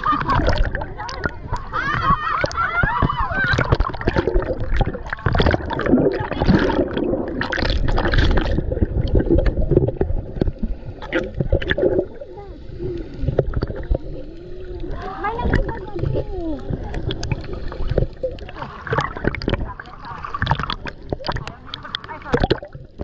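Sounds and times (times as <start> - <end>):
underwater bubbling and gurgling: 0.0 - 23.0
water splashing and sloshing: 0.0 - 23.0.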